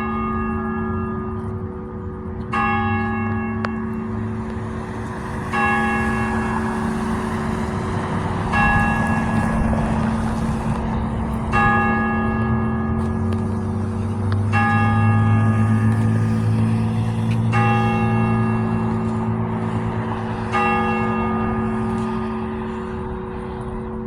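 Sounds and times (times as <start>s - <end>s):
church bell striking: 0.0s - 24.0s
steady low hum: 0.0s - 24.0s.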